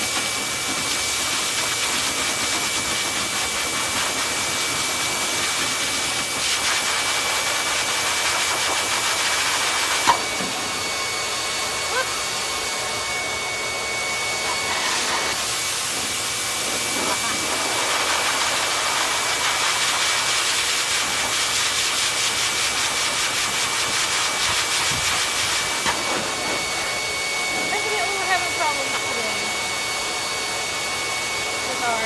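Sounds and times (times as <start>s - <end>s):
pet dryer blowing air: 0.0s - 32.0s.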